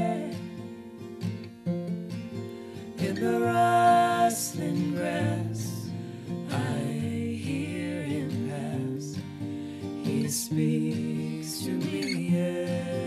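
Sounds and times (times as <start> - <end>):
man and woman singing a hymn: 0.0 - 0.6, 3.0 - 13.0
strummed acoustic guitar: 0.0 - 13.0.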